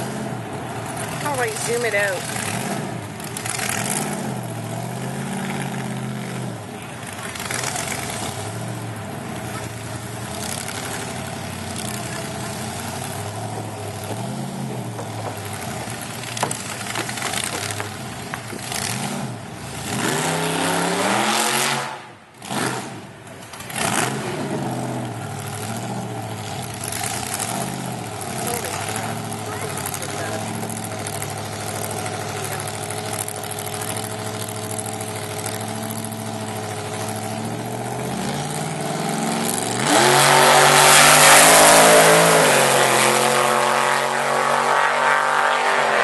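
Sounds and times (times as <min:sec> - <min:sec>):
lumpy engine idle and revving: 0:00.0 - 0:46.0.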